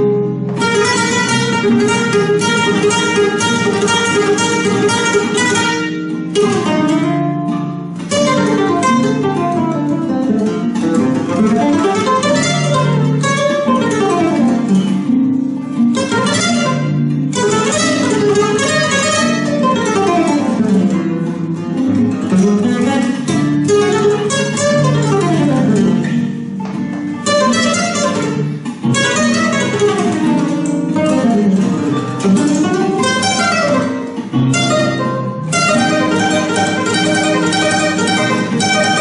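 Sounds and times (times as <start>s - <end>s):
flamenco guitar playing: 0.0s - 39.0s.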